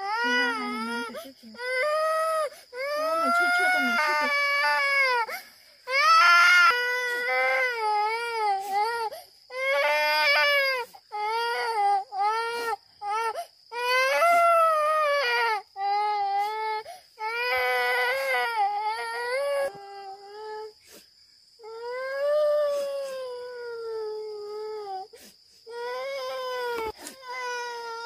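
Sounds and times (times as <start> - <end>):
high-pitched wailing cries: 0.0 - 20.8, 21.6 - 28.0.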